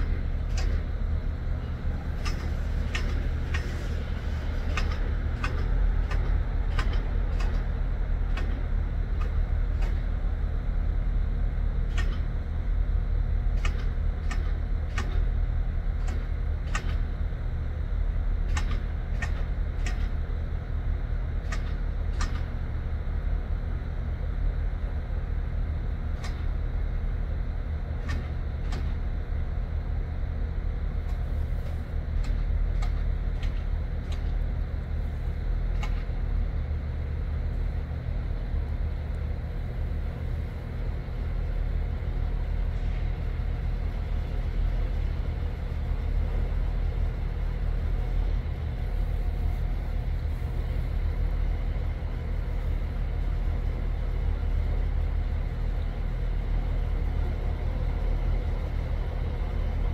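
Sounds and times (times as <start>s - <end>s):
train low drone: 0.0s - 59.9s.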